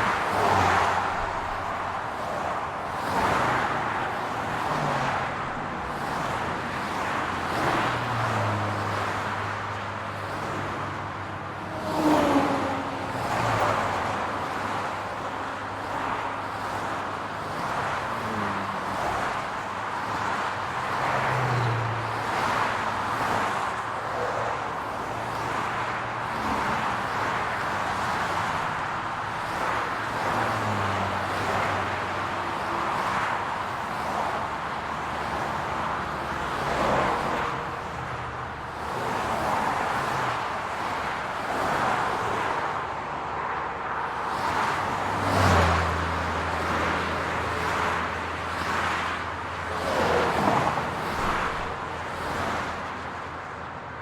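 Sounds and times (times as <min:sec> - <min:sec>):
road traffic noise: 0:00.0 - 0:54.0
vehicles passing: 0:00.0 - 0:54.0.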